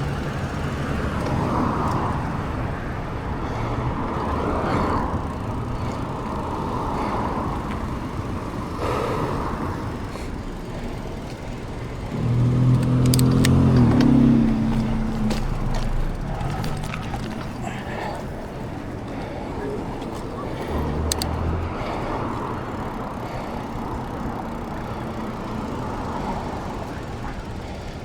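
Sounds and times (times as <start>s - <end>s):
low engine drone: 0.0s - 28.0s
vehicle road noise: 0.0s - 28.0s.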